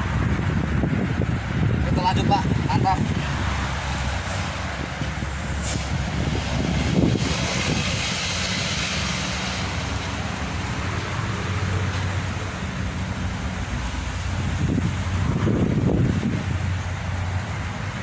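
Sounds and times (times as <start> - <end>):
low engine hum: 0.0 - 18.0
traffic passing: 0.0 - 18.0.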